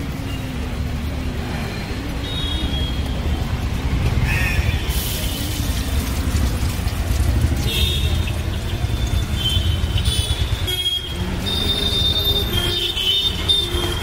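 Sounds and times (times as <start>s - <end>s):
street traffic rumbling: 0.0s - 14.0s.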